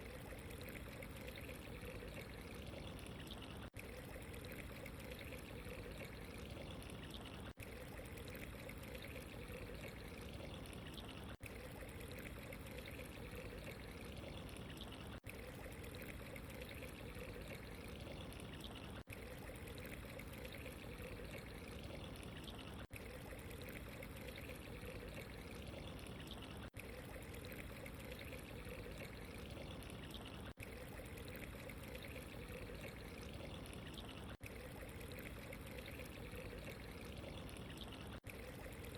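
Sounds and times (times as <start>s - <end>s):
water pouring and trickling: 0.0s - 38.9s.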